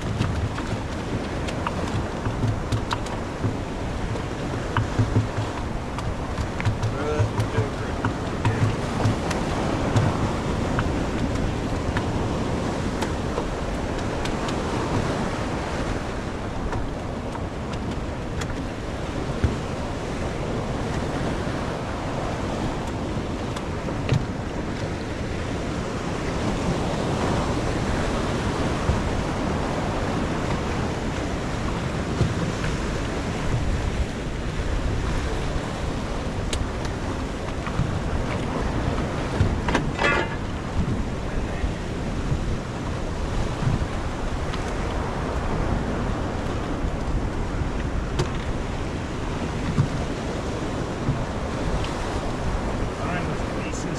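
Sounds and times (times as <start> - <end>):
water washing against jetty: 0.0 - 53.9
wind buffeting microphone: 0.0 - 53.9.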